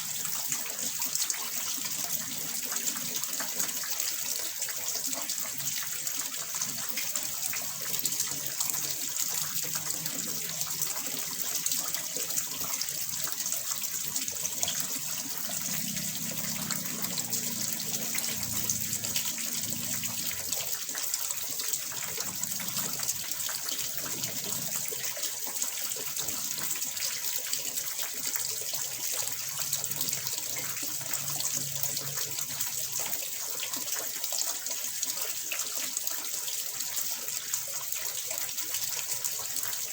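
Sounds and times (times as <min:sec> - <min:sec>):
water pouring into pond: 0:00.0 - 0:39.9.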